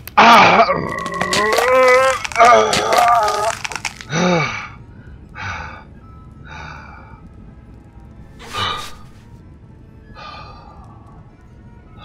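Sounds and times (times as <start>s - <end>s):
faint background music: 0.1s - 12.0s.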